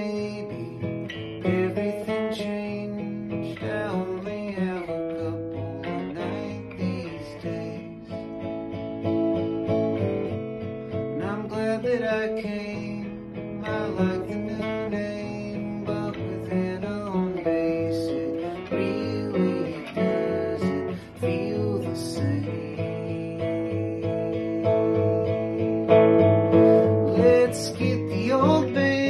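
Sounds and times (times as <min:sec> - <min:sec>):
man singing: 0:00.0 - 0:08.5, 0:11.1 - 0:29.0
acoustic guitar strumming: 0:00.0 - 0:29.0.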